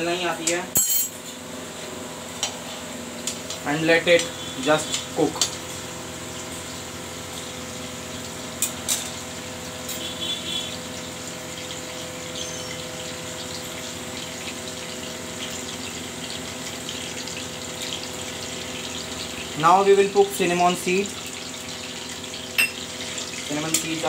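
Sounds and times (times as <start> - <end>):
hot oil sizzling: 1.4 - 24.0.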